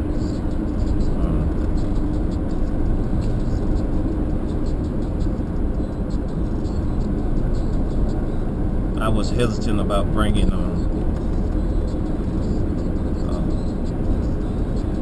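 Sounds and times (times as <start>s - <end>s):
constant hum: 0.0s - 15.0s
road and engine rumble: 0.0s - 15.0s.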